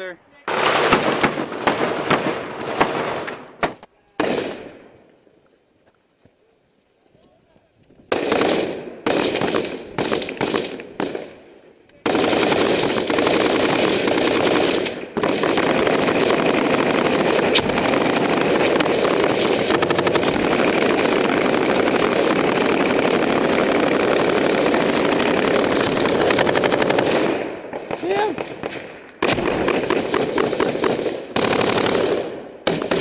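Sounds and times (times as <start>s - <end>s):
rapid automatic gunfire: 0.5s - 3.4s, 8.1s - 11.3s, 12.0s - 33.0s
gunshots: 0.5s - 4.9s, 8.1s - 11.4s, 12.0s - 33.0s.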